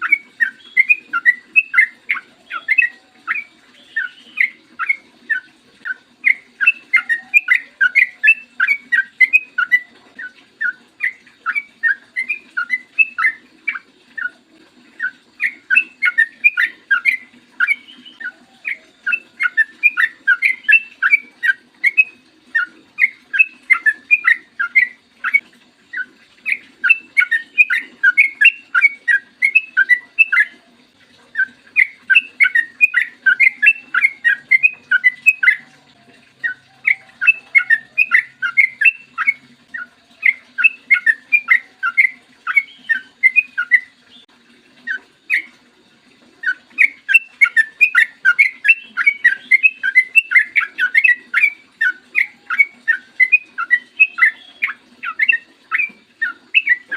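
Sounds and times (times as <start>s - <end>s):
bird singing whistled notes: 0.0s - 14.3s, 15.0s - 30.5s, 31.4s - 35.8s, 36.4s - 44.3s, 46.4s - 56.9s.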